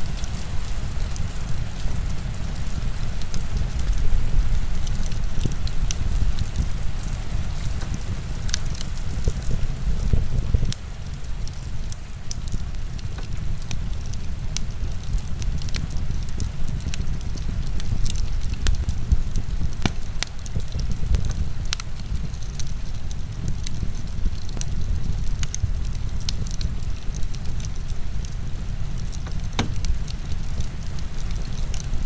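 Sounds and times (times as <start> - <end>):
heavy rain: 0.0 - 32.0
wood fire crackling and popping: 0.0 - 32.0.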